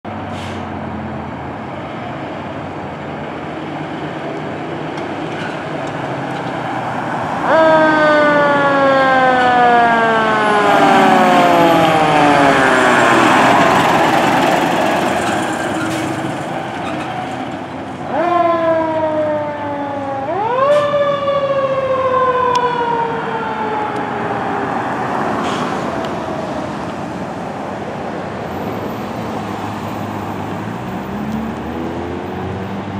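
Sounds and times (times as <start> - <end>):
truck and traffic rumble: 0.0 - 32.9
fire engine siren: 6.1 - 32.6.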